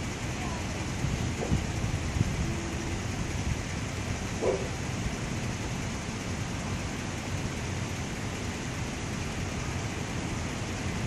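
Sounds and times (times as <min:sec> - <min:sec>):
low rumble of traffic: 0:00.0 - 0:11.0.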